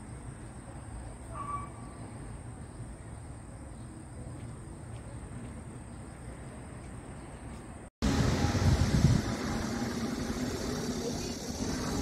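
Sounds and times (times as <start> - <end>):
low outdoor rumble: 1.9 - 12.0.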